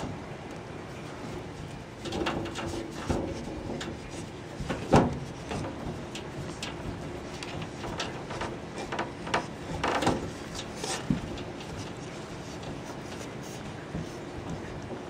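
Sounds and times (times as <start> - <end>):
mesh and shelf rattling: 0.0 - 15.0.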